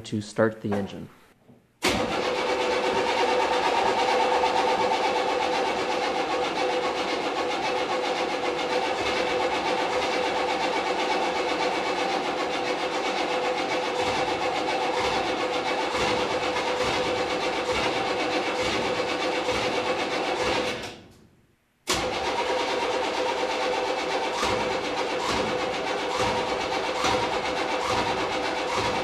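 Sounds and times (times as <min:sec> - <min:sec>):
engine starter cranking: 0:01.8 - 0:21.0, 0:21.9 - 0:29.0.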